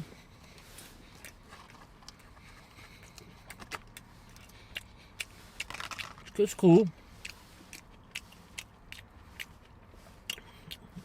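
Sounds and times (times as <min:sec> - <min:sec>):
person chewing crispy food: 0:00.2 - 0:11.0.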